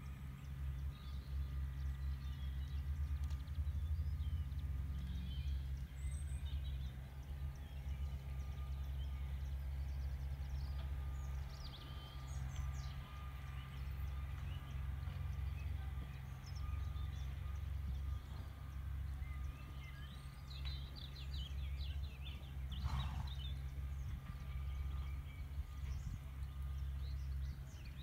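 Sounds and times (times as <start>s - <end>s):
birds chirping faintly: 0.2s - 28.0s.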